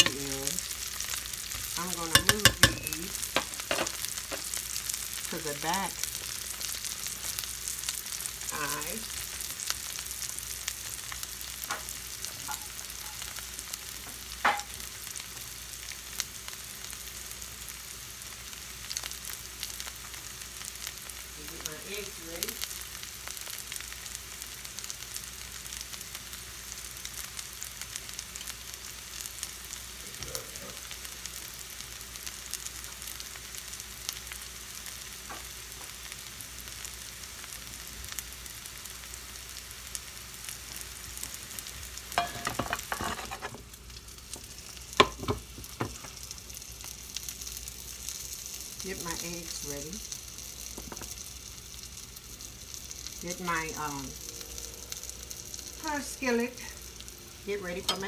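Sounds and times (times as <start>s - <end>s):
potatoes sizzling in oil: 0.0s - 58.0s.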